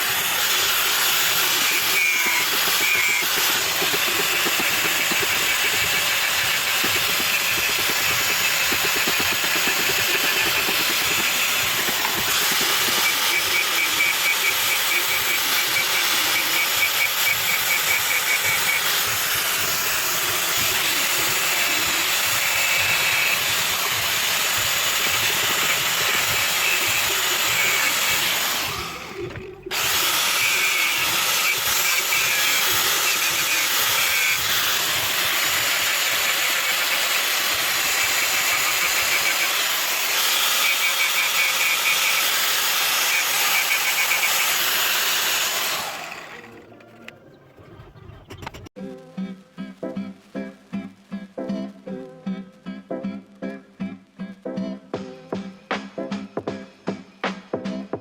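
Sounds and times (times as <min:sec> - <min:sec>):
power tool running: 0:00.0 - 0:48.8.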